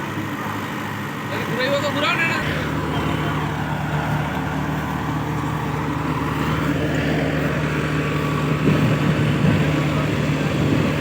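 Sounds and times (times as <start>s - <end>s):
tractor diesel engine humming: 0.0s - 11.0s.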